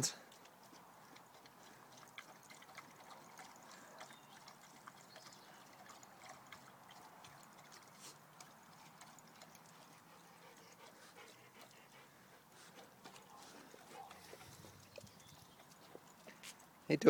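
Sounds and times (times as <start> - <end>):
dog lapping water: 0.5 - 16.8.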